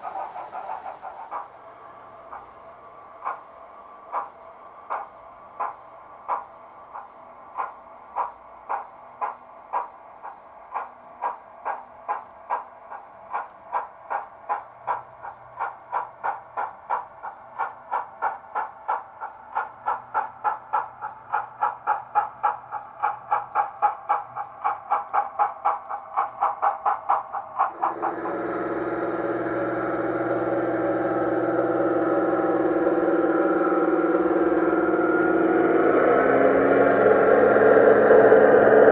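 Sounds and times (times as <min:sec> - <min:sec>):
model diesel engine drone: 0:00.0 - 0:38.9
model steam locomotive chuffing: 0:00.0 - 0:38.9.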